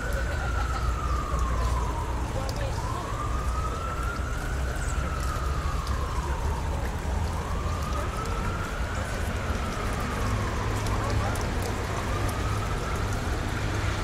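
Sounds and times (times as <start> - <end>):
fountain water splashing: 0.0 - 14.0
siren wailing: 0.0 - 14.0.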